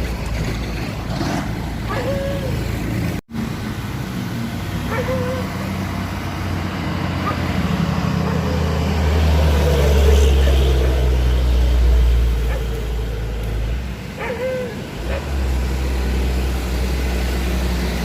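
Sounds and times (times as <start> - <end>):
heavy truck engine labouring: 0.0 - 18.0.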